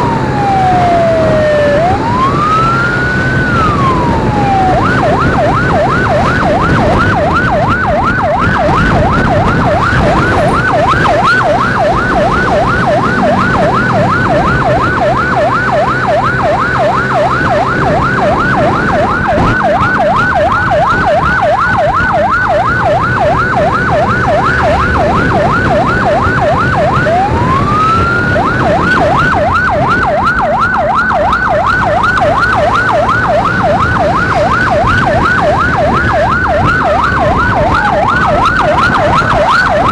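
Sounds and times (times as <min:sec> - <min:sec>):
emergency siren yelp and wail: 0:00.0 - 0:39.9.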